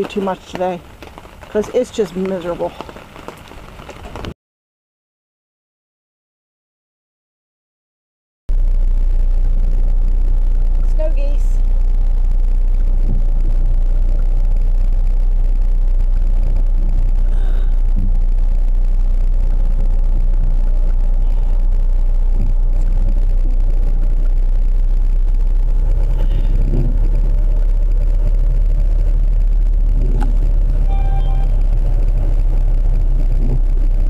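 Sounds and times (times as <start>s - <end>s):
car engine and road rumble: 0.0s - 4.3s, 8.5s - 34.0s.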